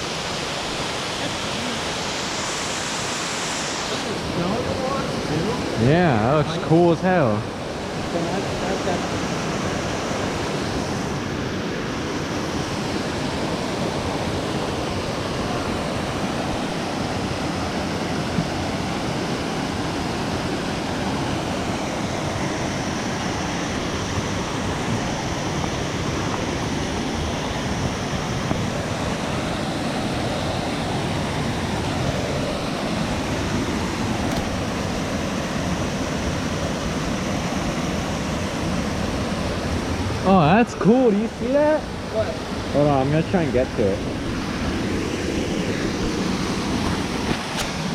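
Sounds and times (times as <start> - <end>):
waterfall roaring: 0.0 - 47.9
wind buffeting microphone: 3.8 - 47.9.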